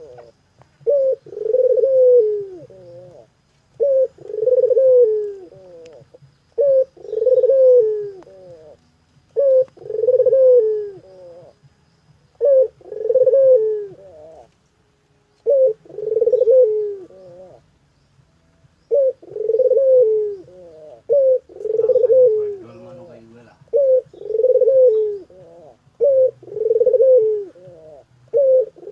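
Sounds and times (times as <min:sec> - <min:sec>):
dove cooing: 0:00.0 - 0:11.7, 0:12.3 - 0:14.6, 0:15.4 - 0:17.8, 0:18.8 - 0:28.9.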